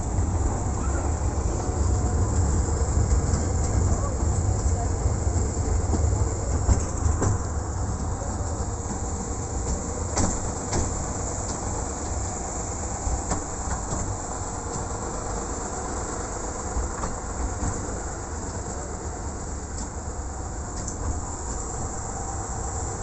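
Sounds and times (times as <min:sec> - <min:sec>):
wheels rumbling on track: 0:00.0 - 0:23.0
sharp clicks at rail joints: 0:01.6 - 0:22.0.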